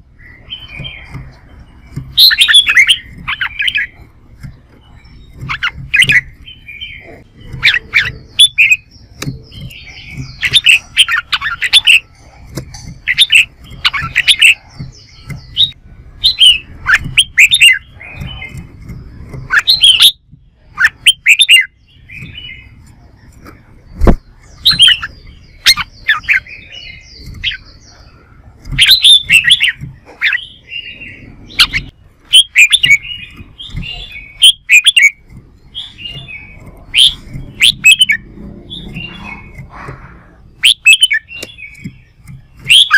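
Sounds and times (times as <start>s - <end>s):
birds singing whistled phrases: 0.0s - 42.9s.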